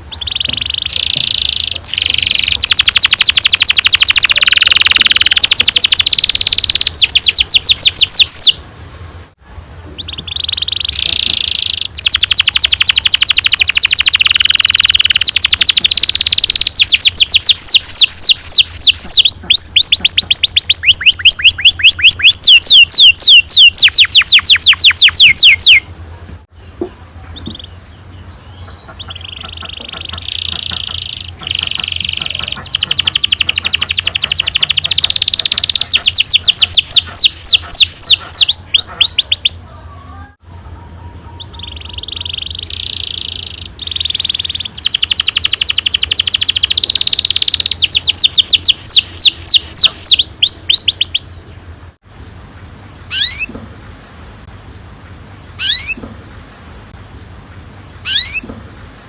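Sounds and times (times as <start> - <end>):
canary singing: 0.0 - 8.6, 9.9 - 25.9, 27.2 - 51.7, 53.1 - 53.6, 55.5 - 56.1, 58.0 - 58.6.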